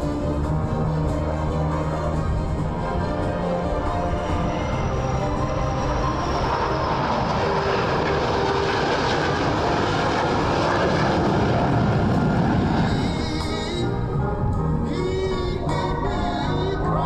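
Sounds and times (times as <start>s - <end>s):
fighter jets flying over: 0.0s - 17.0s.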